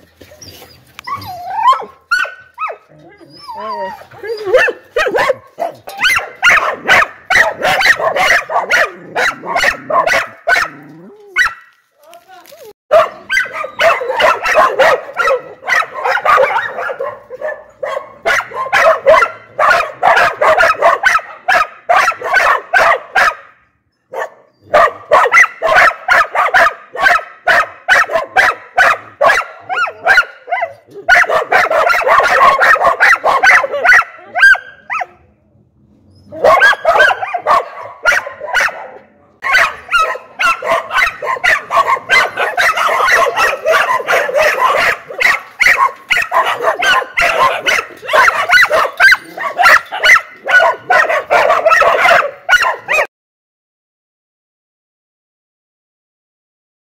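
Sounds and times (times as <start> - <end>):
dog barking: 1.6 - 2.9, 4.4 - 11.8, 12.9 - 35.2, 36.3 - 53.1.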